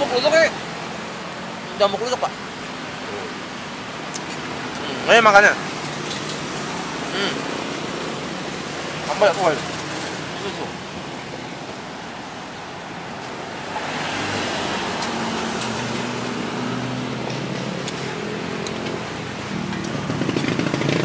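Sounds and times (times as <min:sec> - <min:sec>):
traffic rushing past: 0:00.0 - 0:21.0
vehicle engine hum: 0:00.0 - 0:21.0.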